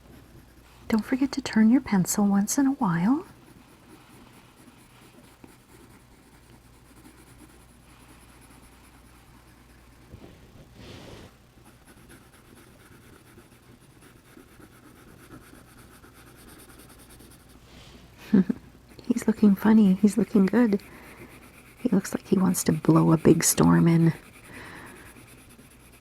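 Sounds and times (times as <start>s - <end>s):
colored pencil scratching on paper: 0.0s - 11.0s, 11.6s - 17.6s, 18.9s - 26.0s.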